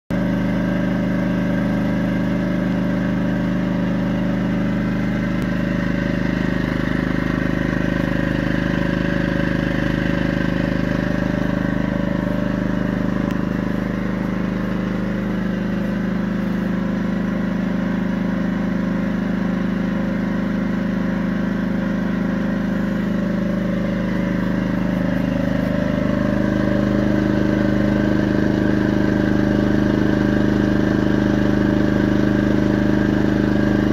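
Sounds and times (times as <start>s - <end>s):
portable generator engine running: 0.1s - 33.9s.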